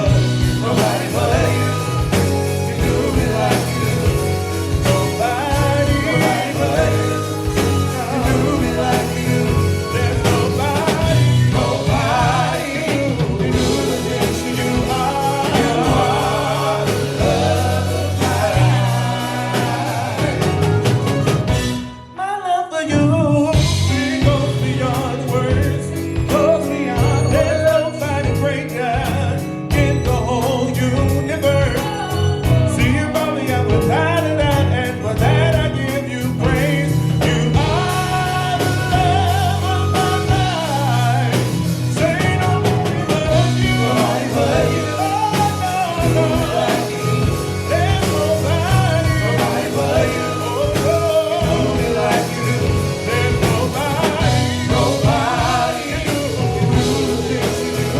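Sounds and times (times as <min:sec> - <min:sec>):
live band playing: 0:00.0 - 0:57.9
vocal quartet singing: 0:00.0 - 0:57.9.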